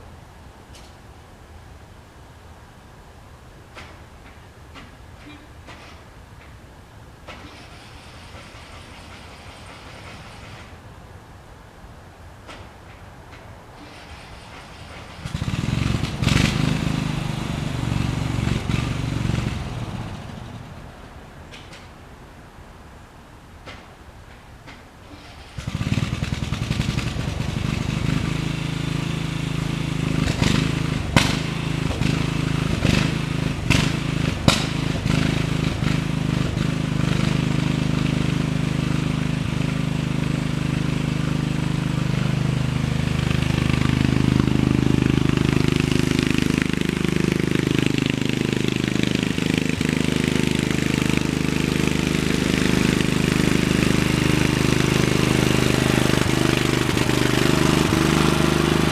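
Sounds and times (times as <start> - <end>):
lawn mower engine running: 0.0 - 58.9.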